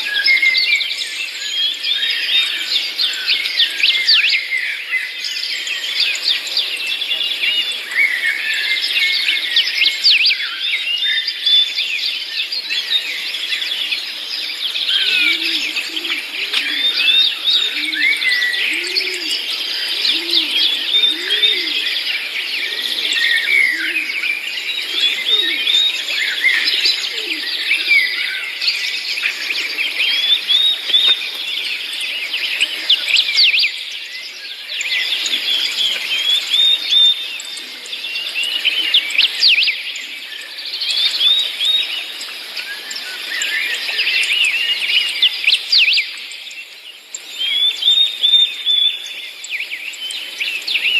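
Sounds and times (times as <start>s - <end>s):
lower rounder bird calls: 0.0s - 50.9s
small birds chirping: 0.0s - 50.9s.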